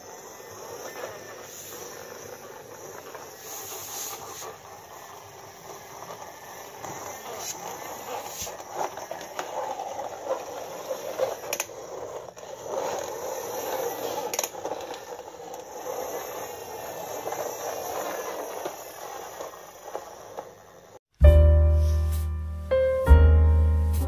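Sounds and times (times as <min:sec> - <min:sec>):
toy truck wheels rolling on floor: 0:00.0 - 0:21.1.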